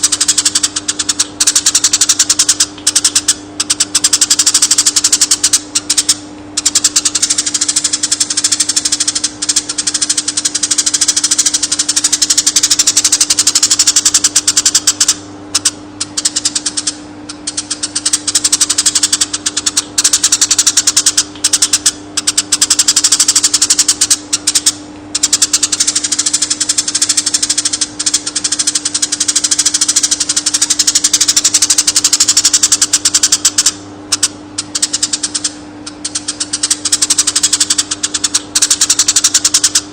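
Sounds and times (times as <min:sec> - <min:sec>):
bird chattering song: 0:00.0 - 0:39.9
steady low hum: 0:00.0 - 0:39.9.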